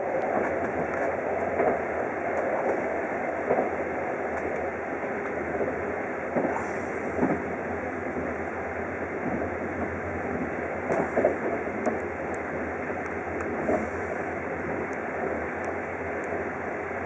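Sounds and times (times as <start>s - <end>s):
rumble of train wheels on rail: 0.0s - 17.0s.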